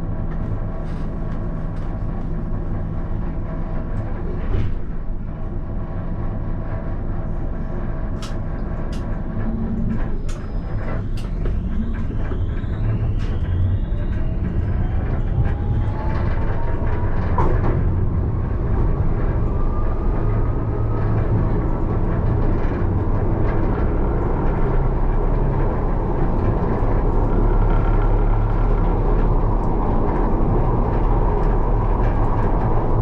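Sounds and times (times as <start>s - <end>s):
traction drive whine: 0.0s - 33.0s
tram rumbling on rails: 0.0s - 33.0s.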